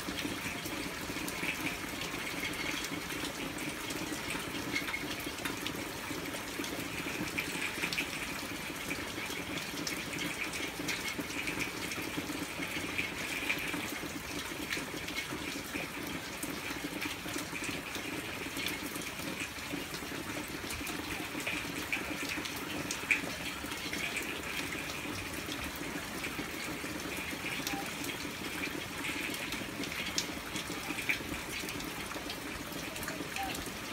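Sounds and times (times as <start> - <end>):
hard rain falling: 0.0 - 33.9.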